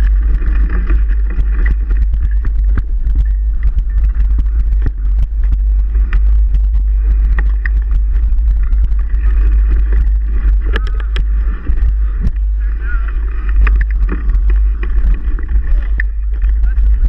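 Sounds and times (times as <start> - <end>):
bike rattling and knocking: 0.0 - 17.0
wind rumble on microphone: 0.0 - 17.0.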